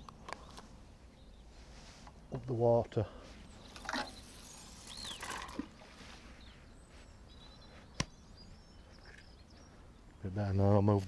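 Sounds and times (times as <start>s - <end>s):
faint bird chirps: 0.0s - 10.7s.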